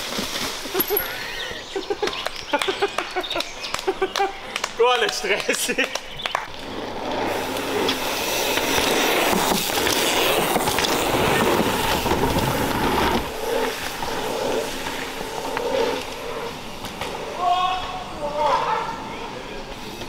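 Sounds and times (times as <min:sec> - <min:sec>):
bike tyres rolling on dirt: 0:00.0 - 0:20.0.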